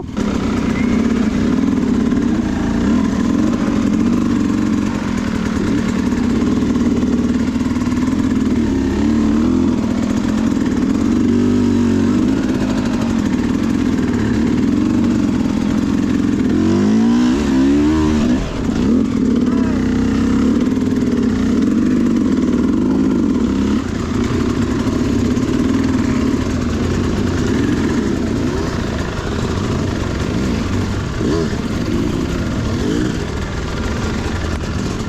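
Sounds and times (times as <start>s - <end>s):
dirt bike engine idling: 0.0s - 35.0s.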